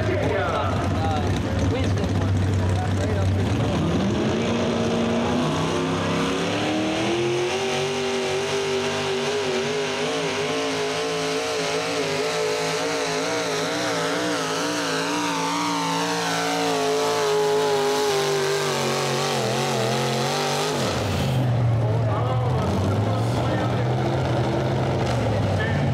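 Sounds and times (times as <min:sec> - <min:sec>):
truck engine at full throttle: 0:00.0 - 0:25.9.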